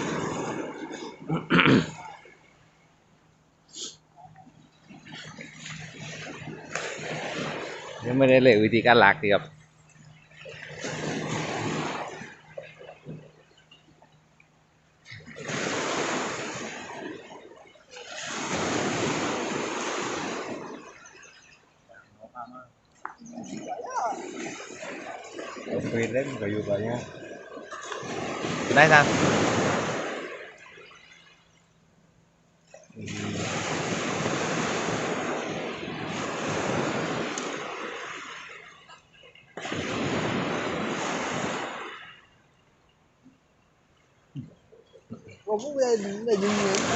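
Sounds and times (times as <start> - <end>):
sea waves washing ashore: 0.0 - 32.0, 32.6 - 46.9.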